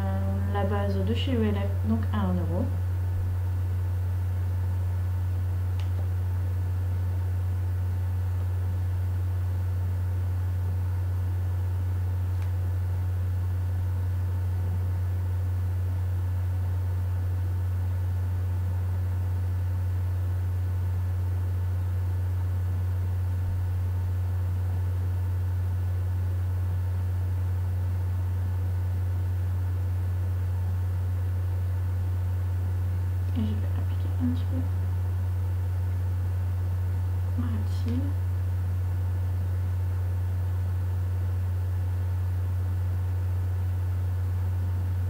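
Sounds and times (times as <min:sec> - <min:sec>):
loud low hum: 0:00.0 - 0:45.0.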